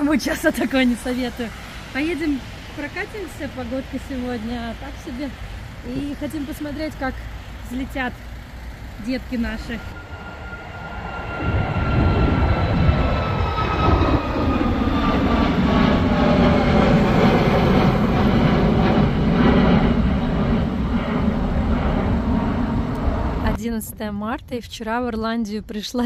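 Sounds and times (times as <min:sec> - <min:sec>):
jet engines roaring: 0:00.0 - 0:23.6
faint jet whine: 0:00.0 - 0:24.3.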